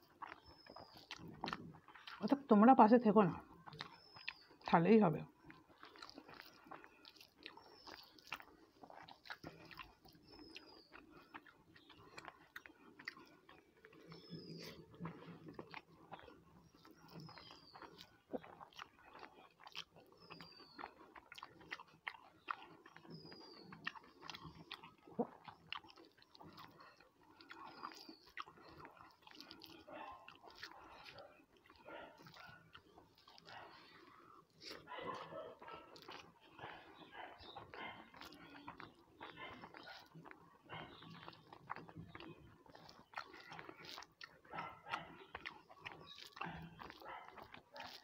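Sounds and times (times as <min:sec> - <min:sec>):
chewing and lip smacking: 0:00.0 - 0:48.0
wet clicks from fingers mixing rice: 0:00.0 - 0:48.0.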